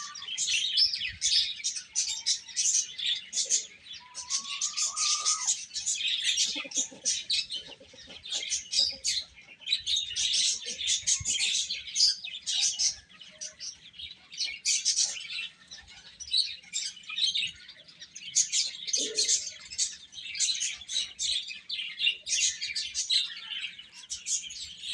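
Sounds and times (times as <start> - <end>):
baby chicks chirping: 0.0 - 24.9.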